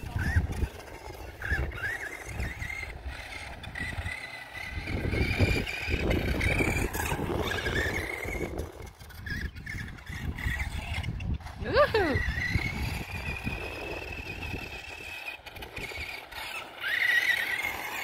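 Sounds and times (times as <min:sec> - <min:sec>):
electric motor high whine: 0:00.0 - 0:18.0.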